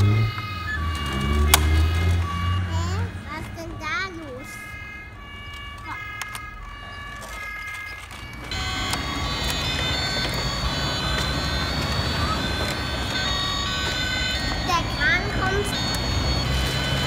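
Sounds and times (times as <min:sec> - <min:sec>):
electronic two-tone siren: 0:00.0 - 0:17.0.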